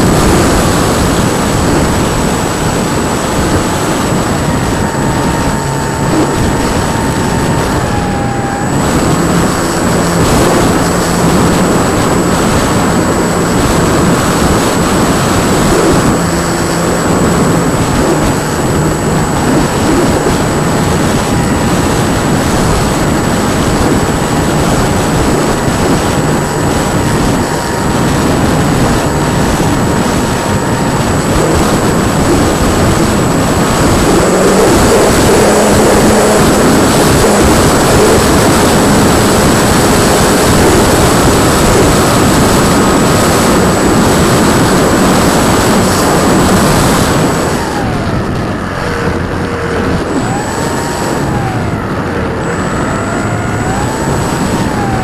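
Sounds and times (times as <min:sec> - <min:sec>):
motor and propeller whine: 0:00.0 - 0:55.0
wind rushing on microphone: 0:00.0 - 0:55.0.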